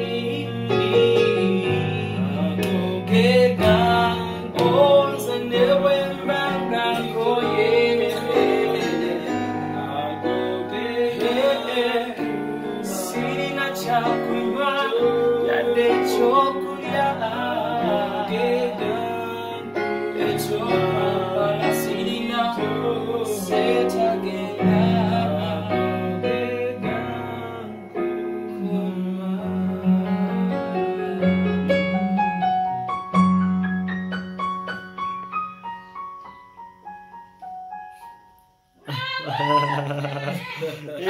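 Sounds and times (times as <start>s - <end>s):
man singing: 0.0s - 32.9s, 38.8s - 41.0s
electronic keyboard piano: 0.0s - 38.8s.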